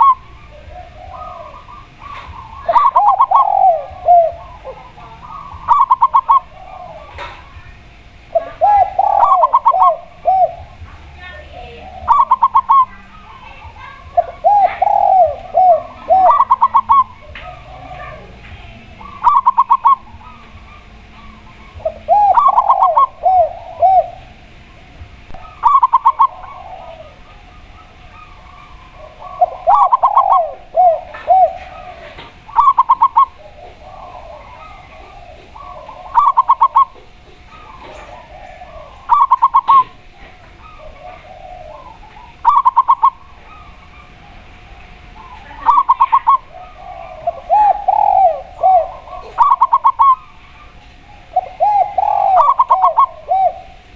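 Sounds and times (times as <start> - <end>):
doves cooing: 0.0 - 53.9
low rounded coos: 0.0 - 53.9.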